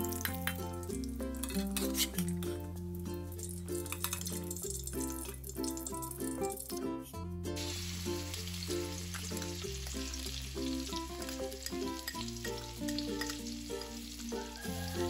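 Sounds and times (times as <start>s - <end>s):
oil sizzling in a wok: 0.0s - 6.8s, 7.6s - 15.0s
background music: 0.0s - 15.0s.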